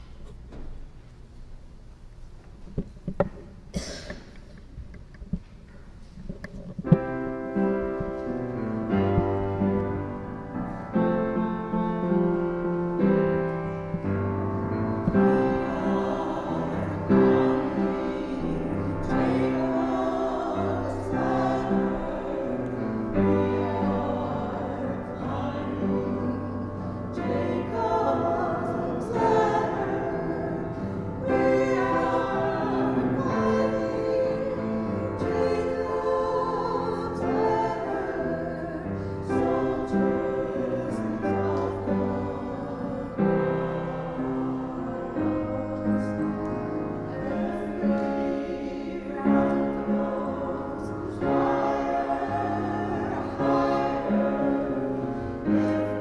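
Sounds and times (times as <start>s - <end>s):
keyboard chords: 6.8s - 56.0s
two people singing a hymn: 6.9s - 56.0s.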